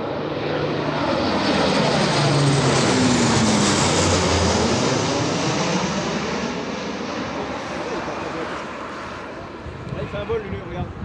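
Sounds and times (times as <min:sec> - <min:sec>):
military aircraft passing overhead: 0:00.0 - 0:11.0.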